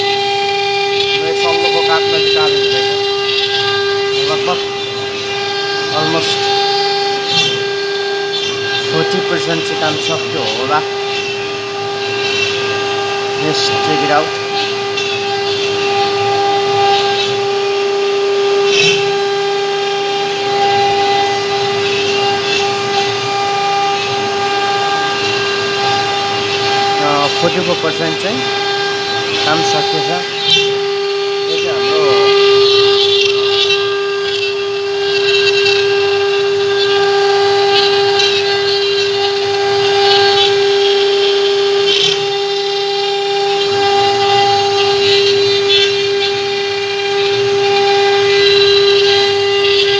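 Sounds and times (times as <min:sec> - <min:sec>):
router bit cutting wood: 0:00.0 - 0:49.9
router spindle whining: 0:00.0 - 0:49.9.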